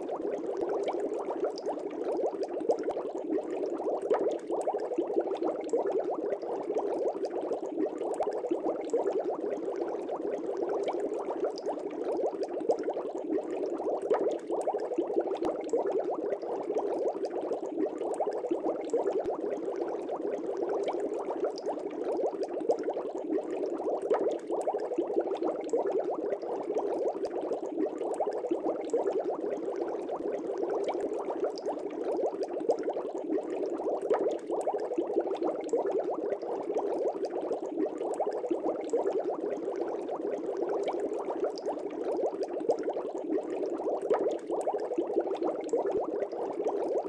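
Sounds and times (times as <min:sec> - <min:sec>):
aquarium water bubbling: 0:00.0 - 0:47.0.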